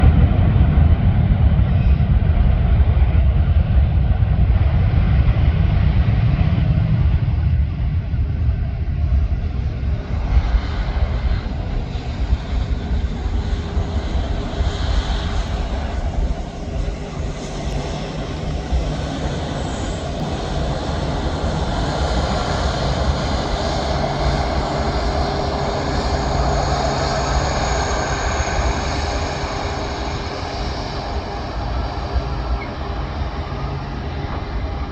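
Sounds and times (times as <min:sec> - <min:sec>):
jet airliner engines: 0:00.0 - 0:34.9.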